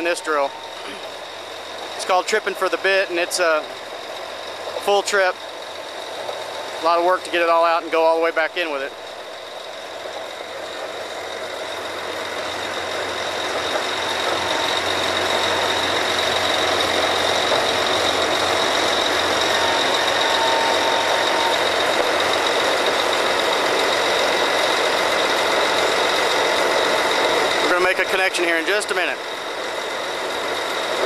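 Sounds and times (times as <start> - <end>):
drilling rig machinery: 0.0 - 31.0.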